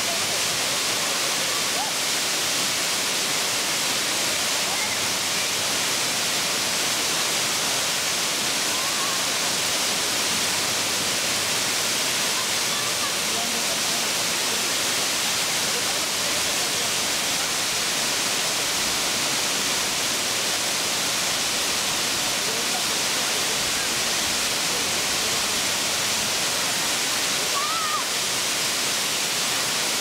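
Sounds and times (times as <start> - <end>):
waterfall rushing into pool: 0.0 - 30.0.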